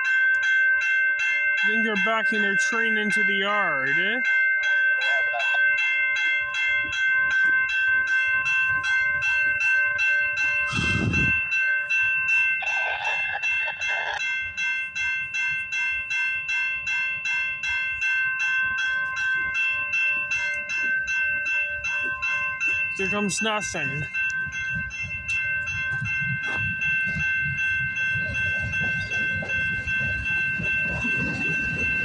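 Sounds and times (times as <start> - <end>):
level-crossing warning bell: 0.0 - 32.0.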